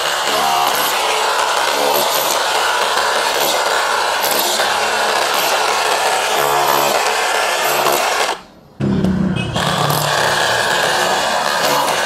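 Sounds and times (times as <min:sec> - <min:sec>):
rotary hammer chiselling concrete: 0:00.0 - 0:08.5, 0:09.6 - 0:12.0.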